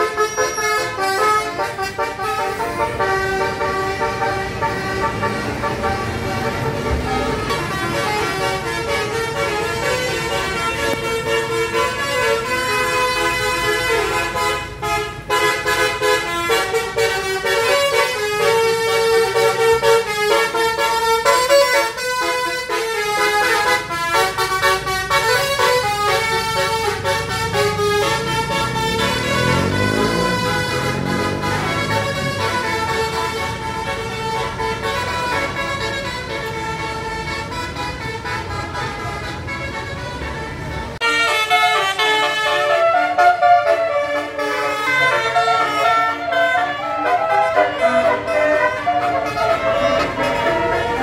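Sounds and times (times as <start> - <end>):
bus engine revving: 0.0 - 41.0, 42.6 - 51.0
musical air horn playing tune: 0.0 - 51.0.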